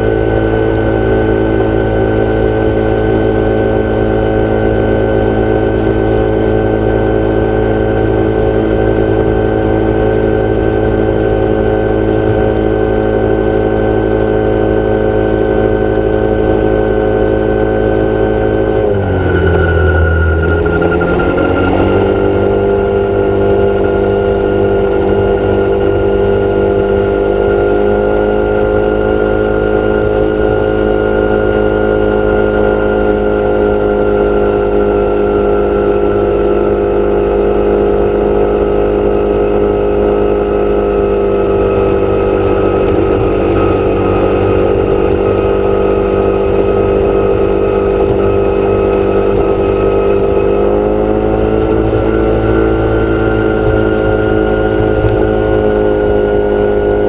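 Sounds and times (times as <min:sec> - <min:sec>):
motor droning hum: 0:00.0 - 0:57.0.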